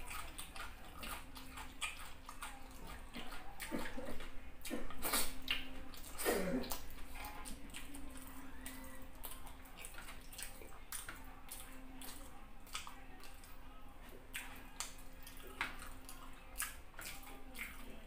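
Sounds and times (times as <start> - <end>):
low steady hum: 0.0 - 18.0
wet chewing with lip smacks: 0.0 - 18.0.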